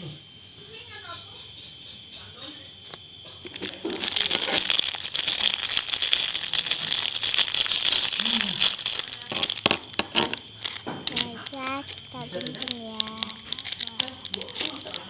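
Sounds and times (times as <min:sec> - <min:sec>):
plastic packaging crinkling: 0:02.9 - 0:15.0.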